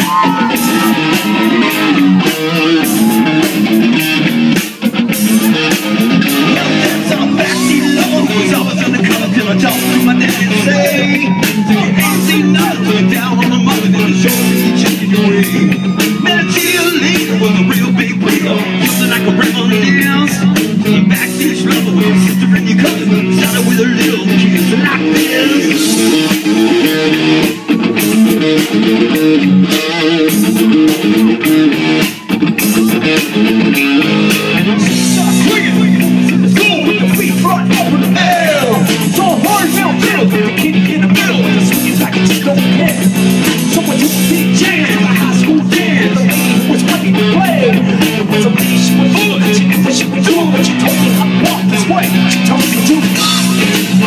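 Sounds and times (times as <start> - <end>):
person singing: 0.0 - 3.8, 5.3 - 28.7, 29.7 - 54.0
bass guitar: 0.0 - 54.0
drums: 0.0 - 54.0
electric guitar: 0.0 - 54.0.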